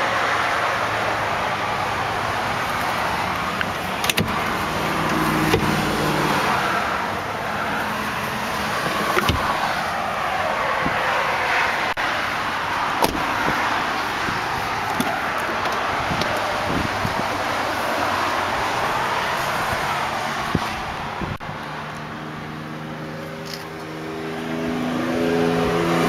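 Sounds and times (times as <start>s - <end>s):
highway traffic noise: 0.0s - 26.0s.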